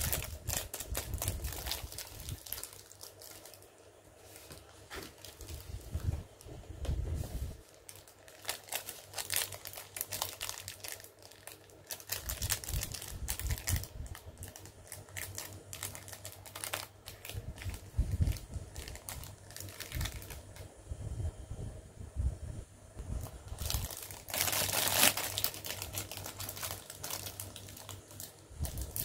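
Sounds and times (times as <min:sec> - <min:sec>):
plastic packaging crackling: 0:00.0 - 0:06.5, 0:07.5 - 0:20.7, 0:23.1 - 0:29.0.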